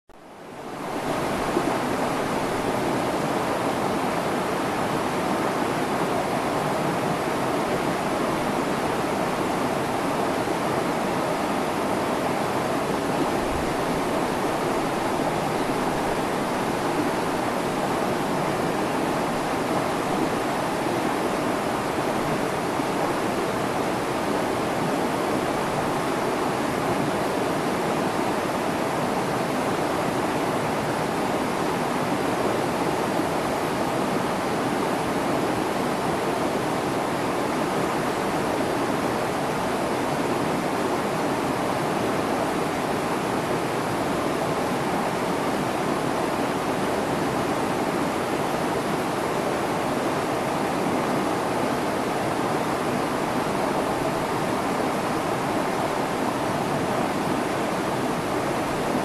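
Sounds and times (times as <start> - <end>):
stream running over rocks: 0.6 - 59.0.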